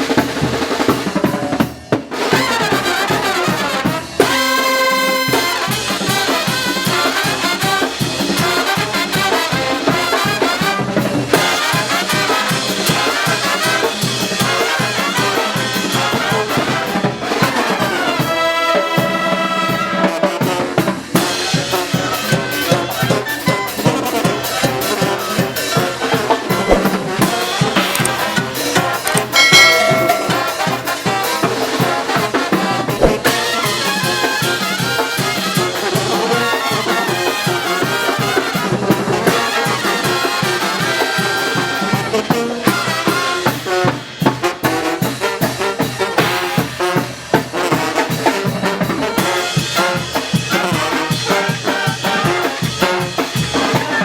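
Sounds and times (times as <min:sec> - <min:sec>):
brass band playing: 0:00.0 - 0:54.0
fast steady drum beat: 0:00.0 - 0:54.0.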